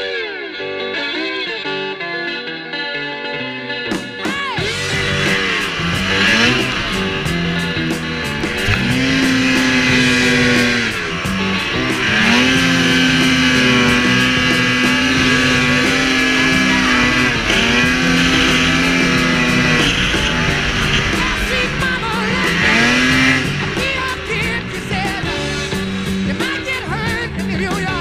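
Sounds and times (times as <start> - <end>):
blues-rock music: 0.0 - 28.0
snowmobile engine revving: 4.6 - 28.0.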